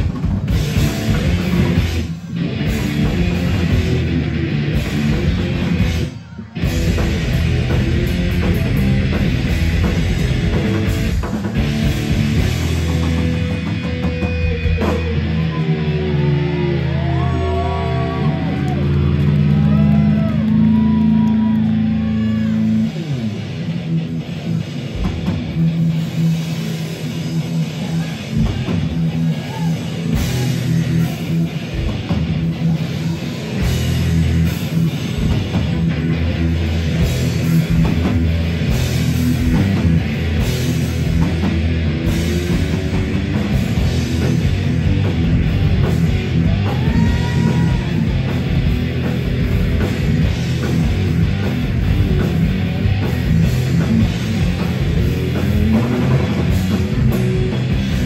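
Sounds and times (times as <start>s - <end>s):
bass guitar: 0.0s - 58.0s
distorted electric guitars: 0.0s - 58.0s
drum kit: 0.0s - 58.0s.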